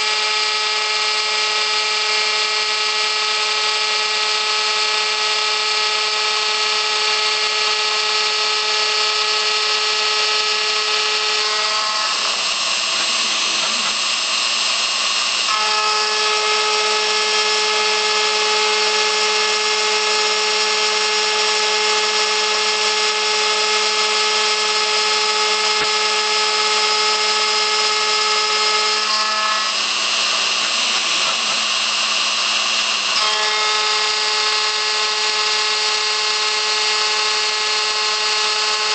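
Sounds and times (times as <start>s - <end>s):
router spindle cutting steel whine: 0.0s - 38.9s.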